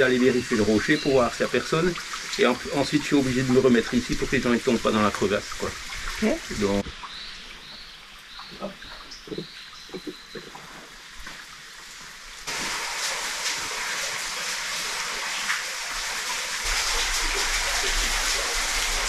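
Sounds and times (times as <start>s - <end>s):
falling water hiss: 0.0s - 19.0s.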